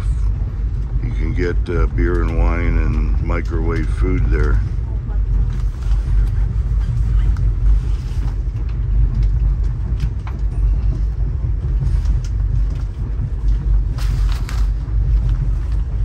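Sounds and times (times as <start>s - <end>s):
train coach rumbling on rails: 0.0s - 16.0s.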